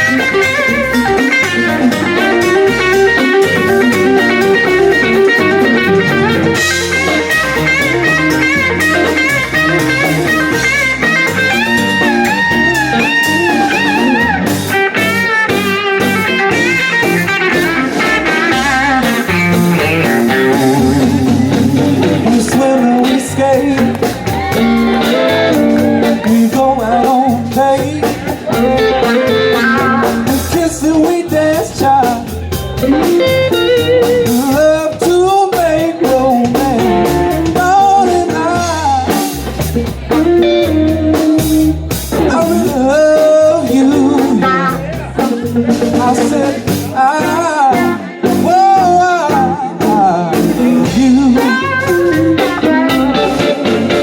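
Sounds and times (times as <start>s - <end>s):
electric guitar bent notes: 0.0s - 54.0s
live blues band playing: 0.0s - 54.0s.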